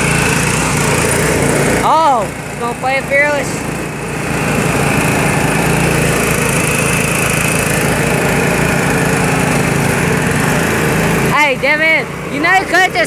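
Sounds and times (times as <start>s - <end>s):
riding mower engine straining: 0.0s - 13.0s.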